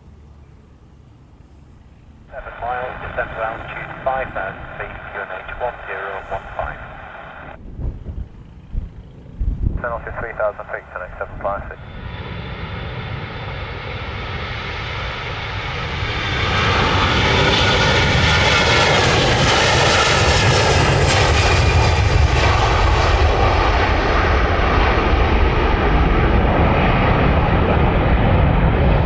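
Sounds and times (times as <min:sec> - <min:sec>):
jet airliner engines: 0:00.0 - 0:29.0
sweeping jet whine: 0:02.3 - 0:07.6, 0:08.6 - 0:29.0.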